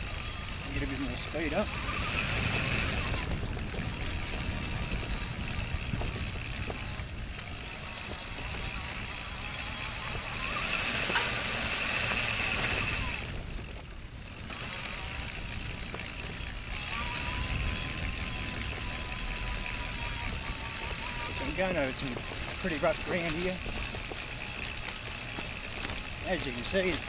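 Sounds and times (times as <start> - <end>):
electric motor whine: 0.0 - 27.0
tyres rumbling on rough dirt: 0.0 - 27.0.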